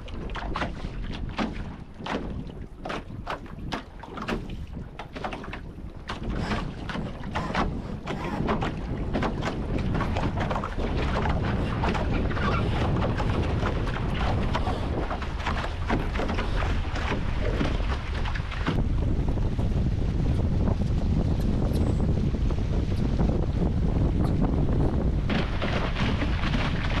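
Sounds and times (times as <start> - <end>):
water rushing past hulls: 0.0 - 27.0
wind buffeting microphone: 0.0 - 27.0.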